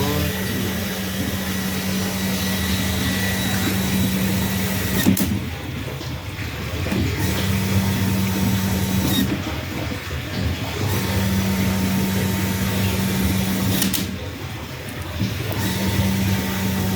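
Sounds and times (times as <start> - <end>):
pump click: 0.0 - 16.9
water pump humming: 0.0 - 16.9.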